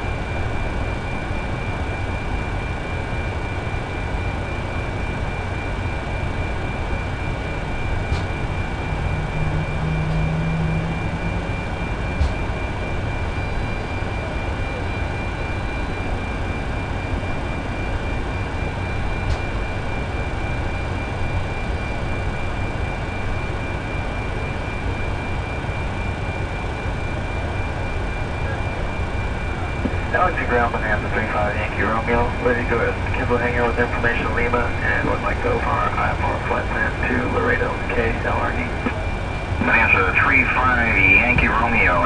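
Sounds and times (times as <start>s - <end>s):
low drone: 0.0s - 22.3s, 25.8s - 42.0s
high steady whine: 0.0s - 42.0s
jet engines in cockpit: 0.0s - 42.0s.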